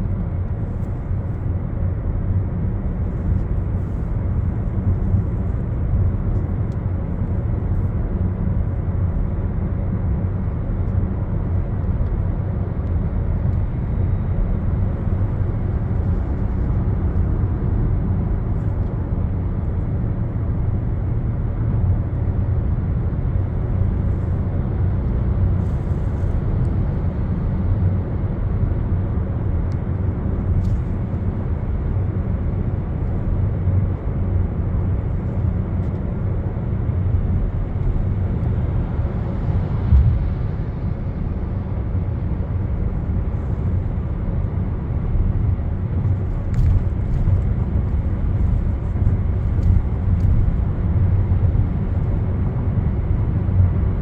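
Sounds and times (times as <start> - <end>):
road vehicle rumbling: 0.0 - 54.0.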